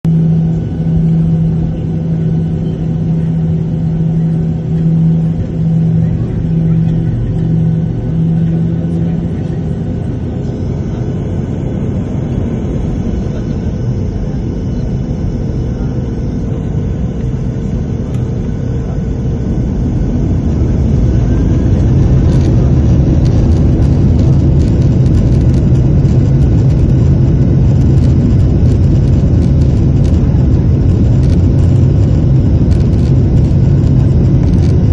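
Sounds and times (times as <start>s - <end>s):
jet engines rumbling: 0.1s - 34.9s.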